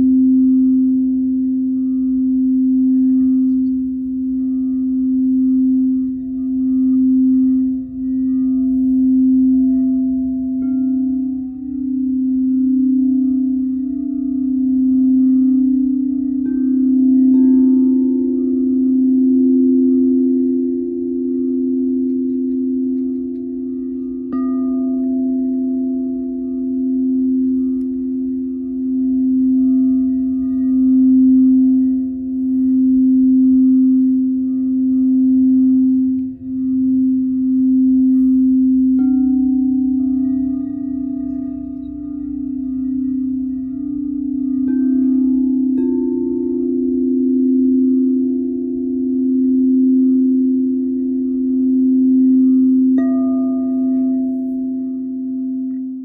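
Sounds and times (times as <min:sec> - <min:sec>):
singing bowl struck: 0:00.0 - 0:56.0
singing bowls ringing: 0:00.0 - 0:56.0.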